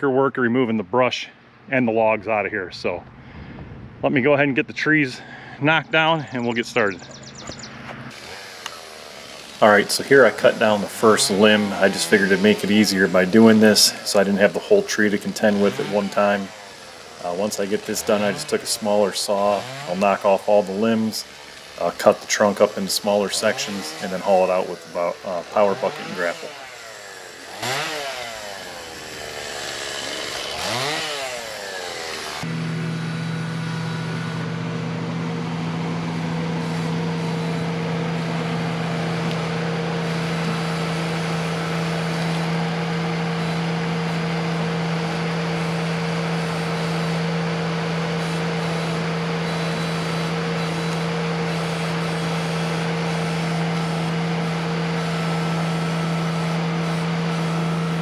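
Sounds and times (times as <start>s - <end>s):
chainsaw revving: 8.1s - 58.0s.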